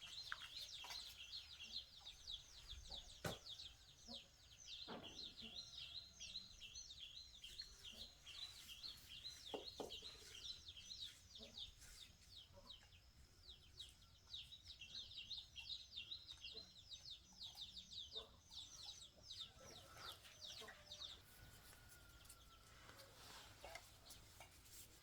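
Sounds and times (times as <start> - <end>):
birds chirping: 0.0 - 24.4.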